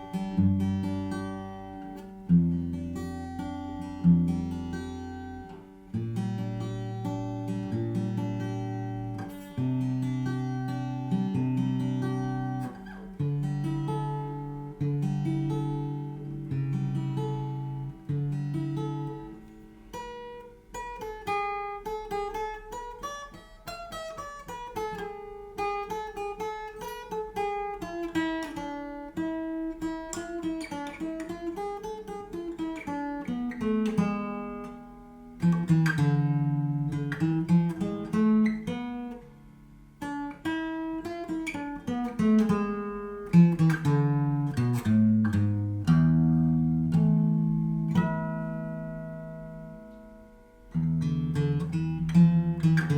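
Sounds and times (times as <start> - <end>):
acoustic guitar fingerstyle: 0.0 - 52.9.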